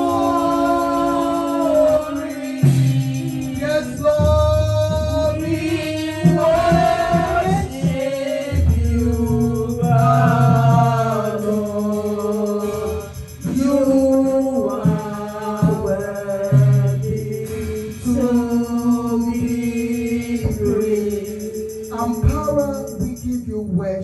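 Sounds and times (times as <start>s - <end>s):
gospel singing voices: 0.0s - 24.0s.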